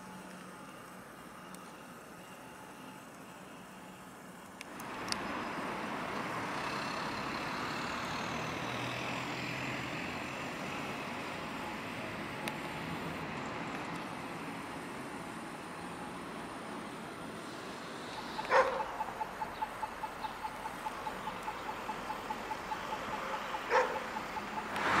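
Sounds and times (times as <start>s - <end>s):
road vehicle passing: 4.7s - 25.0s.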